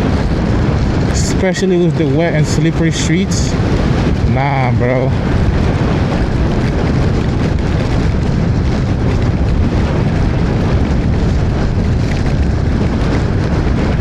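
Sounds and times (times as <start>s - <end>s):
rain: 0.0s - 14.0s
wind buffeting microphone: 0.0s - 14.0s.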